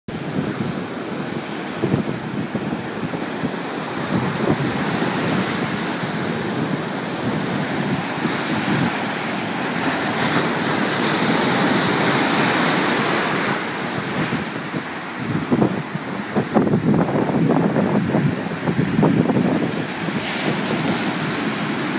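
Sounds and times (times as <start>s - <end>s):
ocean surf breaking: 0.1s - 21.9s
wind buffeting microphone: 0.1s - 21.9s.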